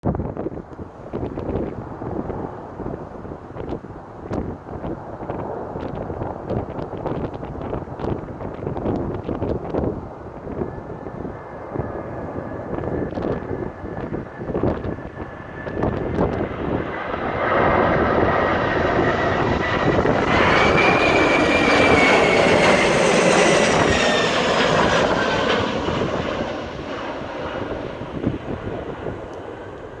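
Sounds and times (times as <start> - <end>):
wind buffeting microphone: 0.0 - 30.0
jet airliner passing: 1.7 - 30.0.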